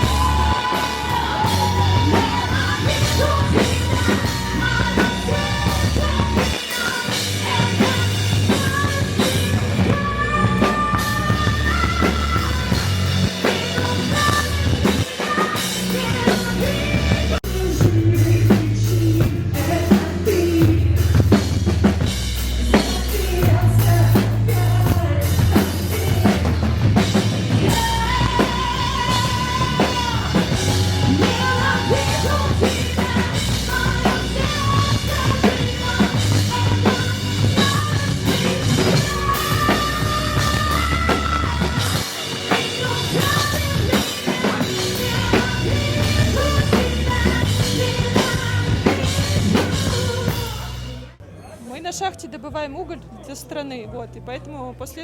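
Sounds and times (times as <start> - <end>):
person singing: 0.0 - 21.6, 22.6 - 50.9
live rock band playing: 0.0 - 51.2.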